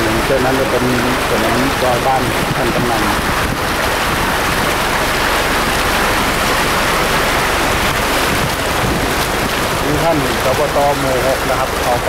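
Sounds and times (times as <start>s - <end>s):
floodwater rushing along street: 0.0s - 12.0s.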